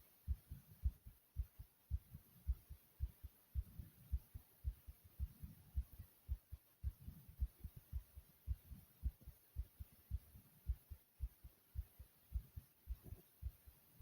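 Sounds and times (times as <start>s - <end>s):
heartbeat thumps: 0.0s - 14.0s.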